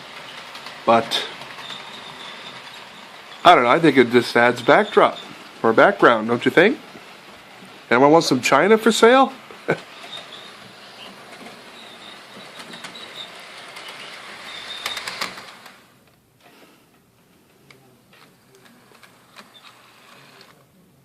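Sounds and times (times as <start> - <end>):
coach wheels squeaking: 0.0 - 15.9, 18.3 - 20.6
model train whirring: 0.0 - 16.0, 17.7 - 20.8.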